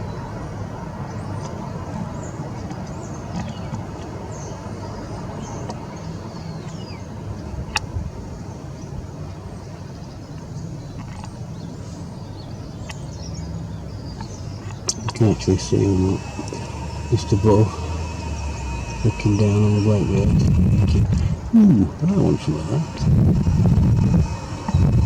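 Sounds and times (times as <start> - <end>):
low background rumble: 0.0 - 25.0
small birds chirping: 0.0 - 25.0.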